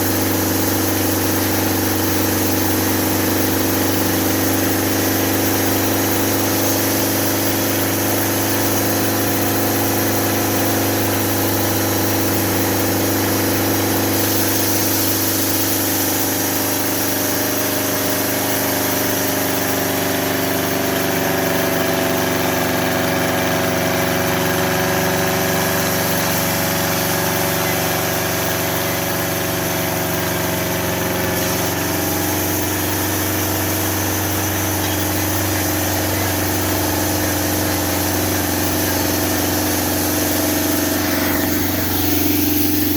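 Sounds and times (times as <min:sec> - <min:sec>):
sawmill motor droning: 0:00.0 - 0:42.9.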